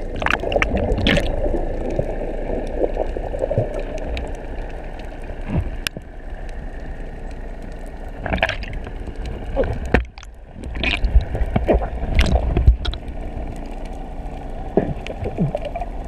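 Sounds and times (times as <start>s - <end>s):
water gurgling and bubbling: 0.0s - 7.4s, 8.0s - 16.0s
underwater rush of seawater: 0.0s - 16.0s.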